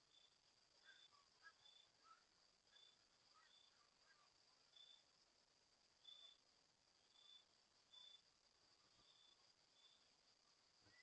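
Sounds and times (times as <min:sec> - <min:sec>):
faint insect chirping: 0:00.0 - 0:11.0.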